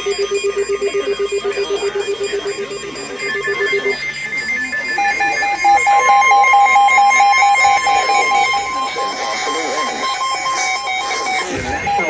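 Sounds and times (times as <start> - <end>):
higher-pitched beeping: 0.0 - 12.0
low rapid beeping: 0.0 - 12.0
pulsing beep: 0.0 - 12.0.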